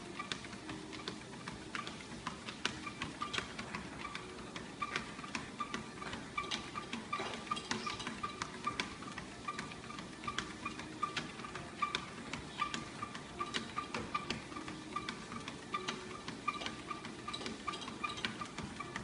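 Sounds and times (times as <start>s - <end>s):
dog claws clicking on treadmill: 0.0s - 19.0s.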